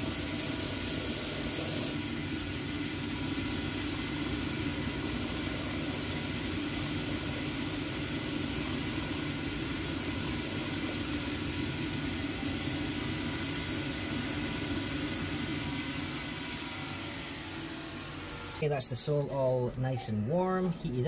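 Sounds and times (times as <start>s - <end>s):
finishing machine motor humming: 0.0s - 18.6s.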